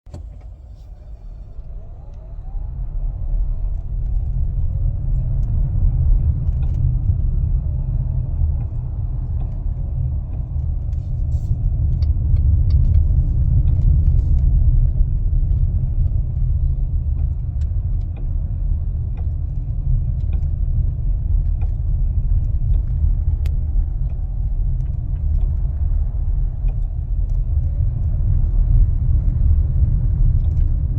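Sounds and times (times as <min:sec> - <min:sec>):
car road rumble: 0:00.0 - 0:30.9.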